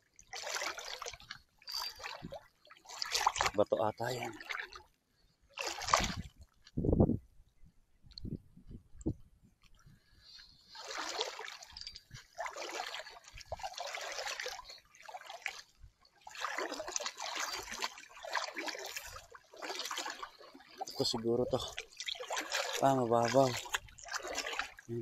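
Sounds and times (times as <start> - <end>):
seawater sloshing around legs: 0.0 - 4.9, 5.6 - 6.7, 10.4 - 25.0.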